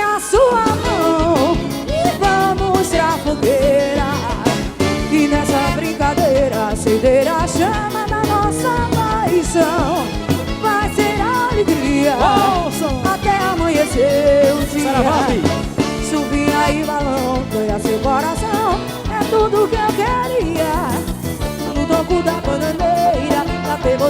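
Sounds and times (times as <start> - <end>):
person singing melody: 0.0 - 21.0, 21.6 - 24.0
band playing: 0.0 - 24.0.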